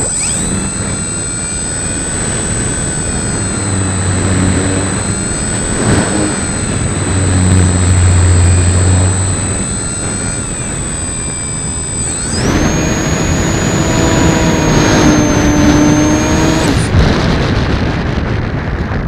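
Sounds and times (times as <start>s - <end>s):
electric motor high whine: 0.0s - 17.7s
wind noise on microphone: 0.0s - 19.0s.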